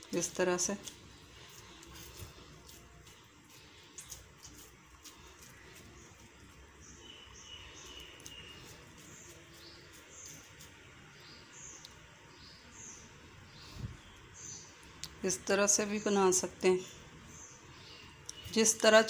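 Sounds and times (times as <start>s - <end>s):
low background noise: 0.0s - 19.0s
bird chirping: 0.1s - 19.0s.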